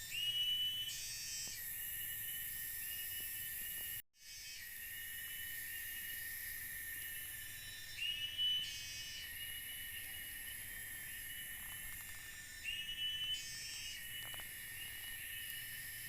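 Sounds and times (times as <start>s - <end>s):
insects trilling at night: 0.0s - 16.0s.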